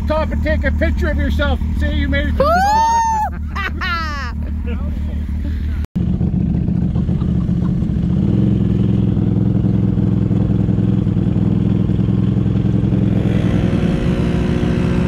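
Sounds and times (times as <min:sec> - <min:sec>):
atv engines running: 0:00.0 - 0:15.0
engine rising in pitch: 0:01.0 - 0:15.0.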